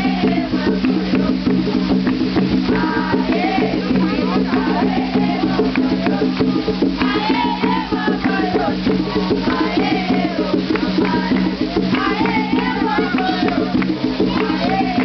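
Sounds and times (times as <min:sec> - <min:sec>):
fast percussion rhythm: 0:00.0 - 0:15.0
voices singing: 0:00.0 - 0:15.0.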